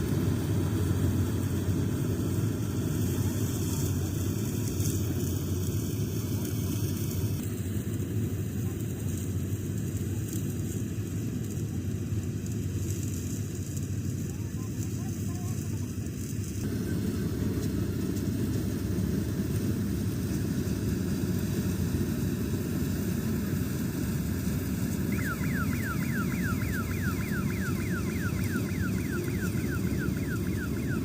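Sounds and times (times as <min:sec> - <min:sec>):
combine harvester droning: 0:00.0 - 0:31.0.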